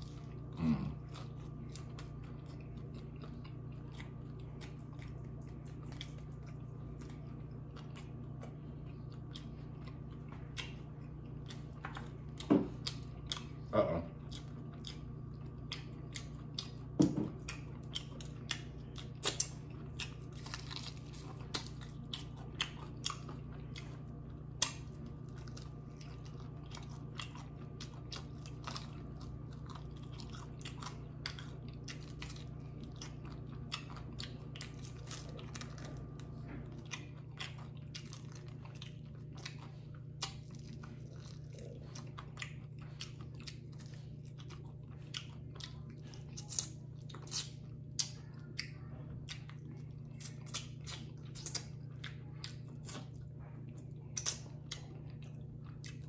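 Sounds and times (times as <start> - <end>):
crunchy chewing: 0.0 - 56.0
low steady hum: 0.0 - 56.0.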